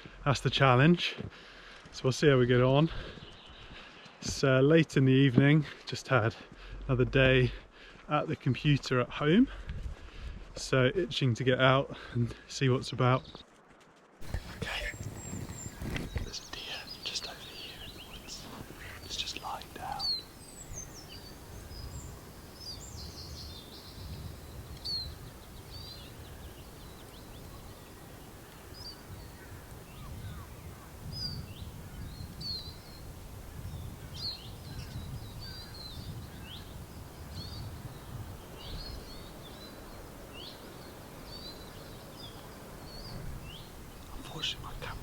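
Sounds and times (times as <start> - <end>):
songbirds chirping and trilling: 0.0 - 13.4, 14.2 - 45.0.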